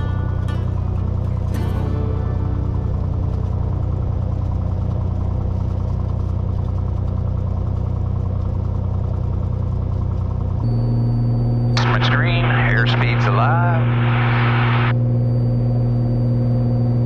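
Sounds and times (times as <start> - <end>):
airplane engine and propeller: 0.0 - 15.4.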